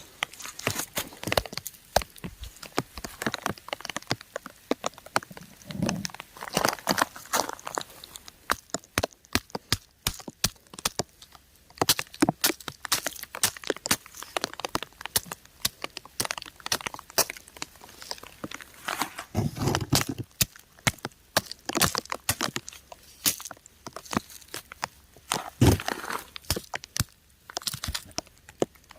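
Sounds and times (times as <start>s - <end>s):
raindrops ticking on rock: 0.0s - 18.8s, 19.8s - 28.9s.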